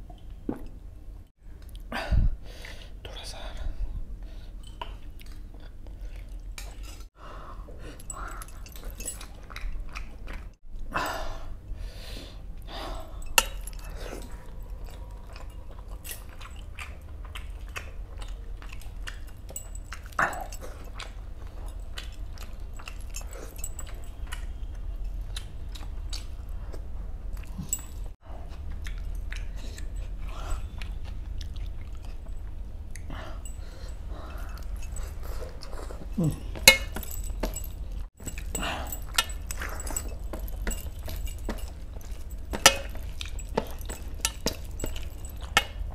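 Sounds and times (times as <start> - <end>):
man chewing and smacking: 4.6 - 7.1, 7.7 - 10.9, 12.6 - 45.9.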